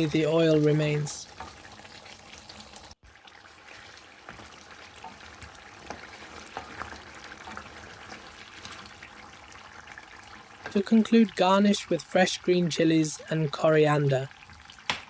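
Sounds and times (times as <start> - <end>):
oil popping and crackling: 0.0 - 11.2, 14.0 - 15.0
meat sizzling in oil: 0.0 - 15.0.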